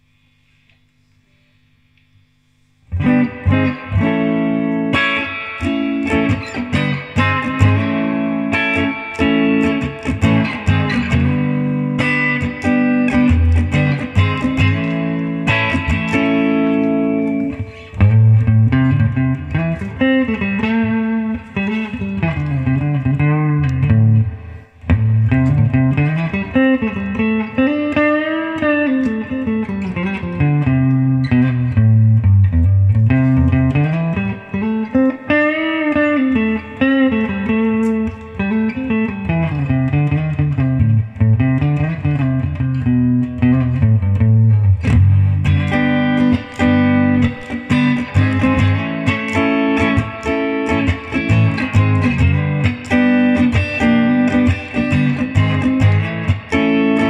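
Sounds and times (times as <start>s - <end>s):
guitar music: 2.8s - 57.0s.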